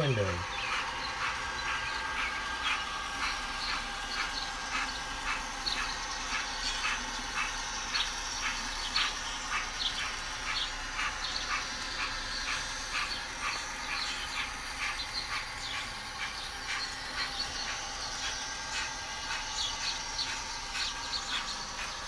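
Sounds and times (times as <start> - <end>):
model train running noise: 0.0 - 22.0.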